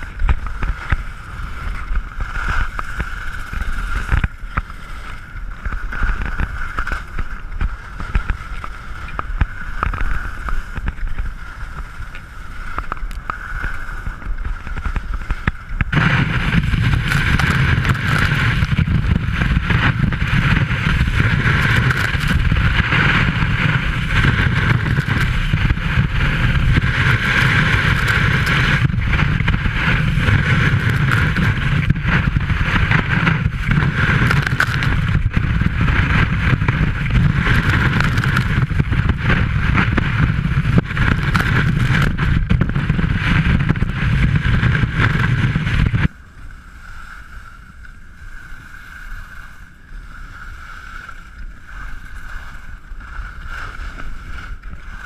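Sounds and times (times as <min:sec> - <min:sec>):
skis scraping through snow: 0:00.0 - 0:55.0
wind on microphone: 0:00.0 - 0:55.0.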